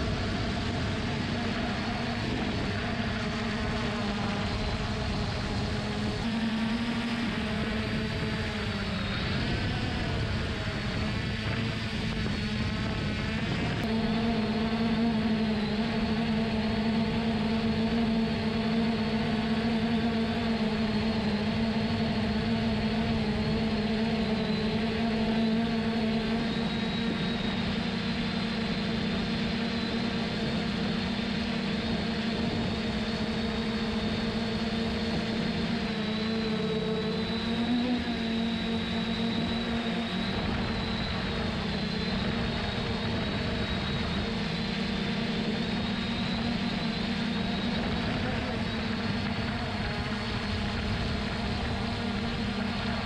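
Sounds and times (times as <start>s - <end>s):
drone propellers whirring: 0.0s - 53.0s.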